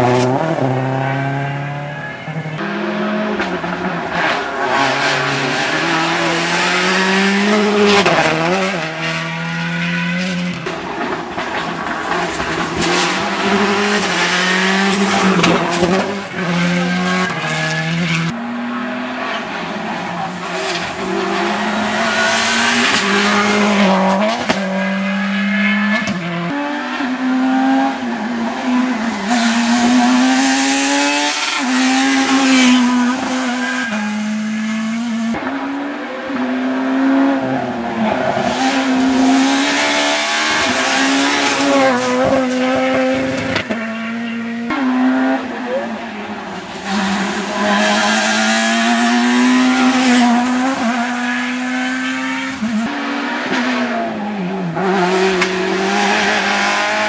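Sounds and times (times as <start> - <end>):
rally cars passing at full throttle: 0.0 - 57.0.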